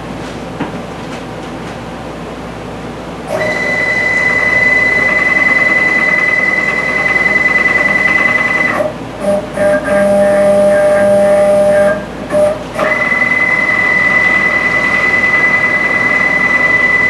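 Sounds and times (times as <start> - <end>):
stepper motor whine: 3.3 - 17.0.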